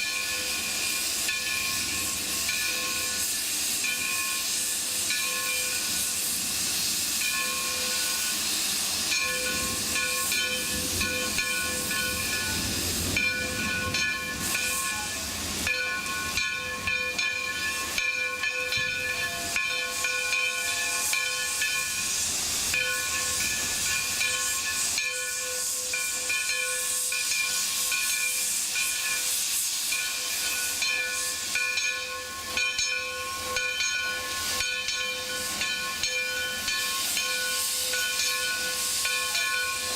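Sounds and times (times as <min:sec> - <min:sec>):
steam locomotive venting steam: 0:00.0 - 0:39.9.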